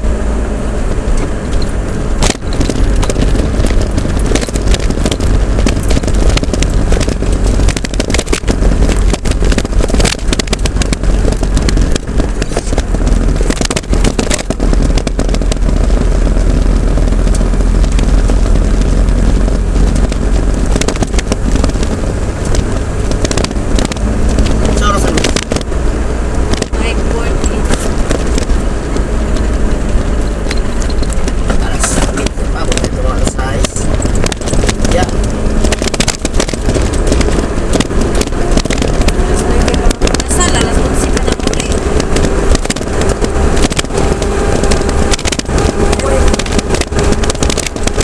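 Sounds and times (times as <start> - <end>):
vehicle engine and road rumble: 0.0 - 48.0
wind buffeting microphone: 0.0 - 48.0.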